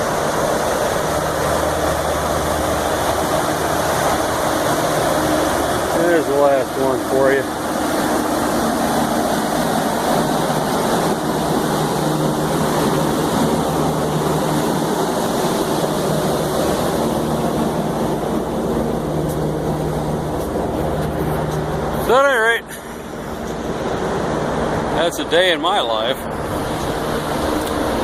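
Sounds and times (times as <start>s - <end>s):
even rushing noise: 0.0s - 28.0s
steady mechanical hum: 0.0s - 28.0s.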